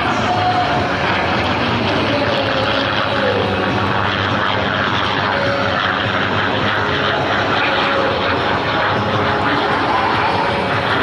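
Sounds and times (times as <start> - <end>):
propeller plane engine overhead: 0.0 - 11.0.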